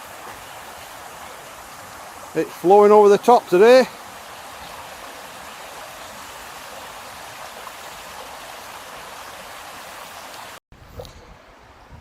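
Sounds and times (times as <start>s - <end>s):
rushing stream water: 0.0s - 10.6s.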